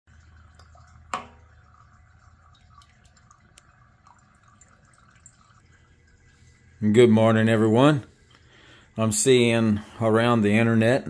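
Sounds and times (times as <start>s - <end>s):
water trickling into a glass: 0.1s - 9.0s.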